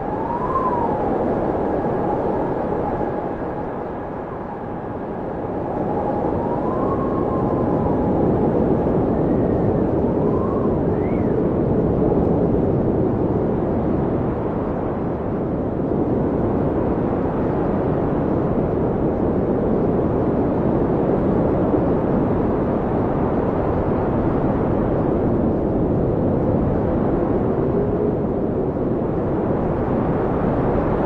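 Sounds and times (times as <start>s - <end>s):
blizzard wind blowing hard: 0.0s - 31.0s
whistling wind howls: 0.0s - 31.0s.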